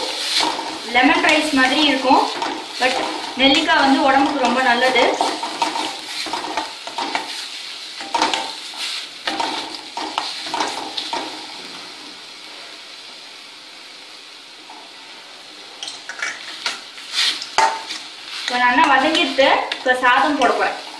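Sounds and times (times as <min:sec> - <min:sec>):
frying sizzle: 0:00.0 - 0:20.9.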